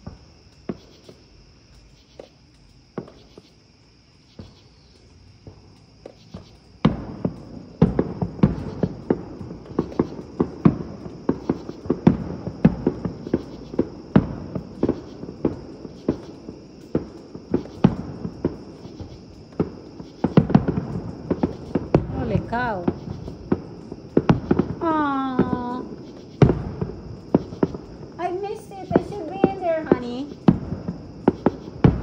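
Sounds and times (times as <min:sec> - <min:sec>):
fireworks bursting: 0:00.0 - 0:03.6, 0:04.3 - 0:32.0.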